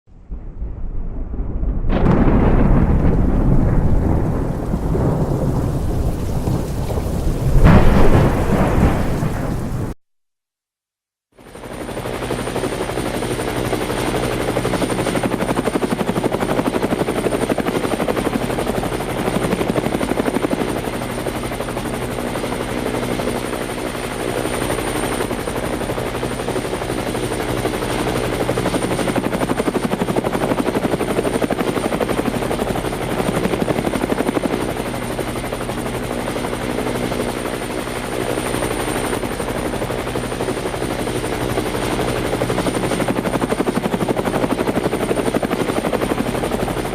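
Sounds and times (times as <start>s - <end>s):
helicopter rotor chop: 2.0s - 10.0s, 11.6s - 46.9s.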